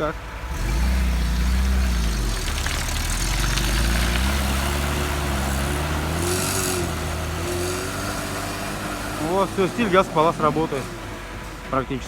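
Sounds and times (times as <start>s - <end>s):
car engine revving hard: 0.3s - 11.7s.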